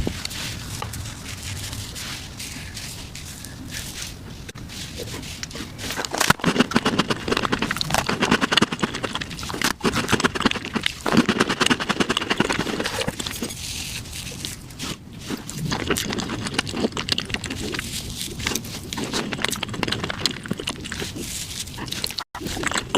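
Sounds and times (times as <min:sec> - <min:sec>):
sped-up chewing and smacking: 0:00.0 - 0:22.9.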